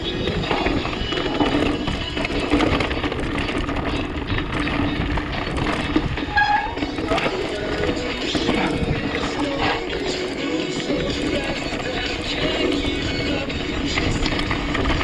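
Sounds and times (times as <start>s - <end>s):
faint music: 0.0s - 15.0s
mountain bike rattling on dirt trail: 0.0s - 15.0s
wind noise on microphone: 0.0s - 15.0s.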